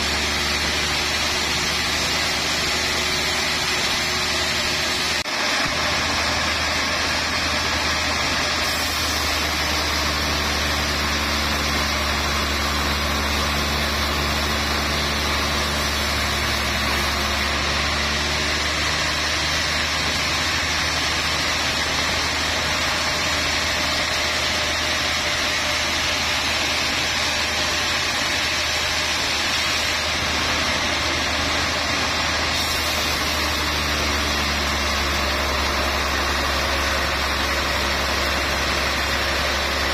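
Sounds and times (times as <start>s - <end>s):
band saw sawing log: 0.0s - 39.9s.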